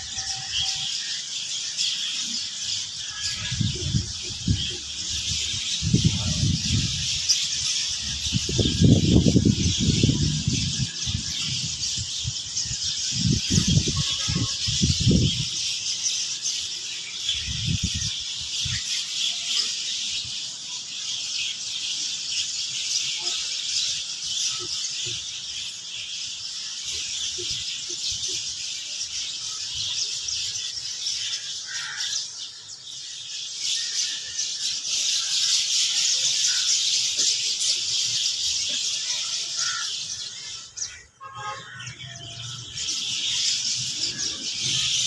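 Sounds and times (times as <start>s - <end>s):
flock of small birds chattering: 0.0s - 45.0s.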